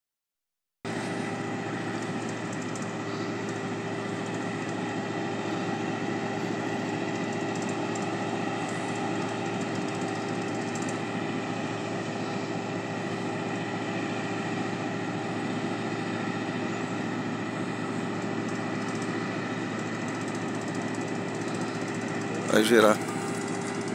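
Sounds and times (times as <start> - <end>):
crane engine droning: 0.9 - 23.9.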